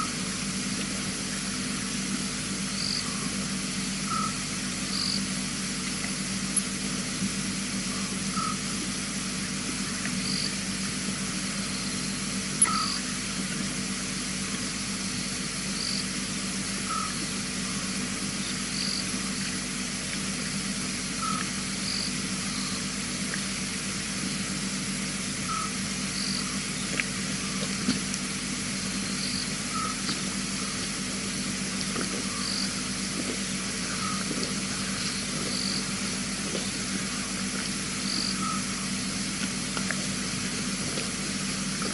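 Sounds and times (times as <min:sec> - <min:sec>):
frogs calling: 0:00.0 - 0:41.9
low steady hum: 0:00.0 - 0:41.9
steady hiss of insects: 0:00.0 - 0:41.9.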